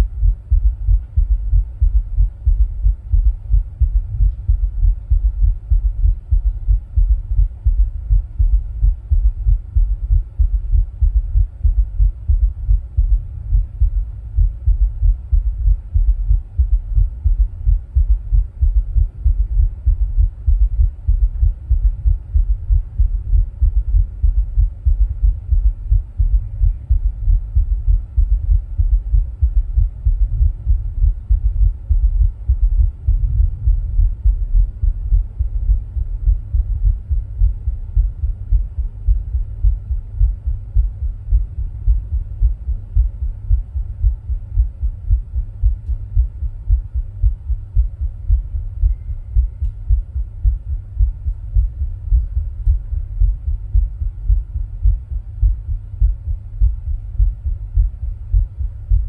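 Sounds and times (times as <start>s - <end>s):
faint steady hum: 0.0s - 59.0s
heartbeat thumps: 0.0s - 59.0s.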